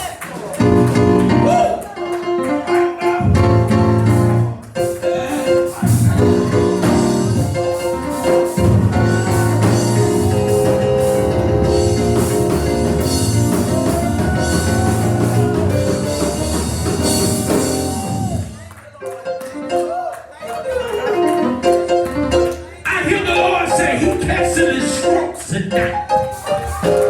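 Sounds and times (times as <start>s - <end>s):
church band music: 0.0s - 27.0s.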